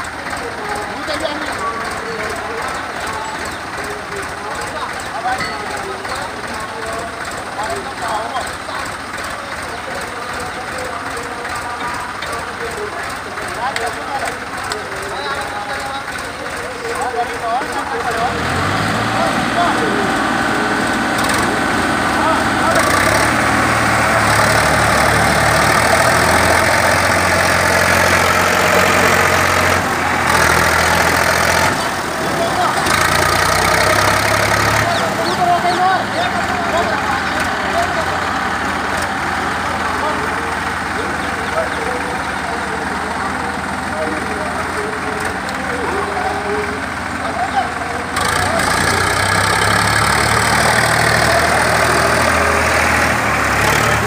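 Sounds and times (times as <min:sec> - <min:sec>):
tractor diesel engines under load: 0:00.0 - 0:54.0.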